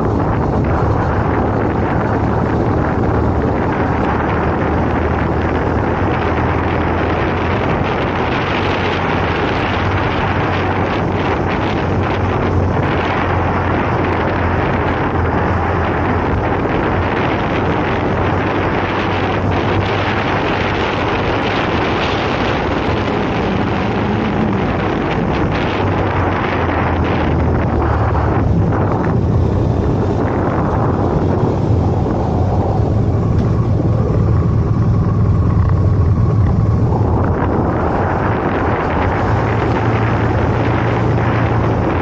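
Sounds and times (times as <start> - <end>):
motorcycle engine: 0.0 - 42.0
wind rushing over microphone: 0.0 - 42.0.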